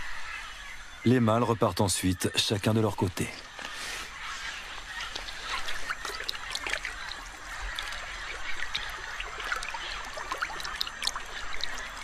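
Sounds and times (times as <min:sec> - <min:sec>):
river water splashing and trickling: 0:00.0 - 0:12.0.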